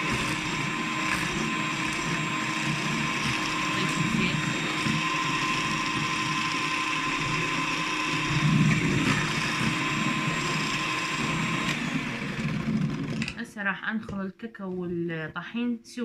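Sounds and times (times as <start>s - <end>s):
electric mixer running: 0.0s - 13.4s.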